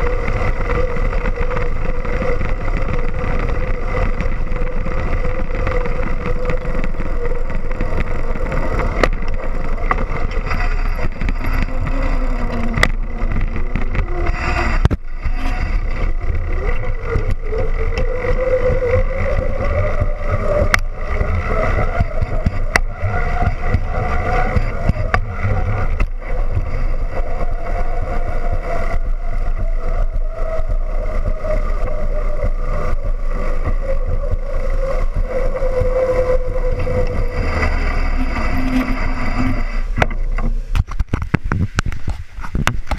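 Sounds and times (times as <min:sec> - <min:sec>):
bike tyres rumbling on concrete: 0:00.0 - 0:42.9
wavering hum: 0:00.0 - 0:42.9
wind on microphone: 0:00.0 - 0:42.9.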